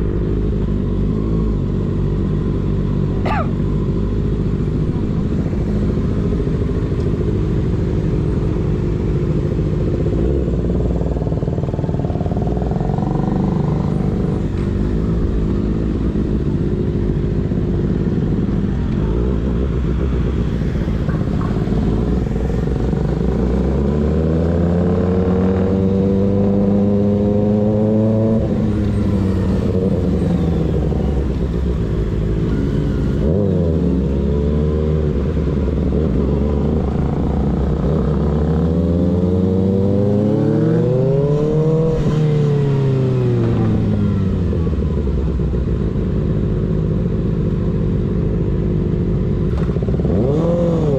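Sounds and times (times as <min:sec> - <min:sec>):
motorcycle engine revving: 0:00.0 - 0:50.9
wind and road noise: 0:00.0 - 0:50.9.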